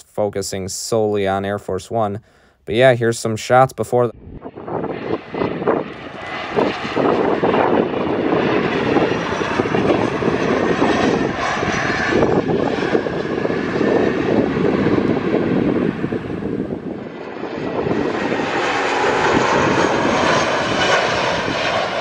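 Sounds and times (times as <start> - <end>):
jet engine rumble: 0.0 - 22.0.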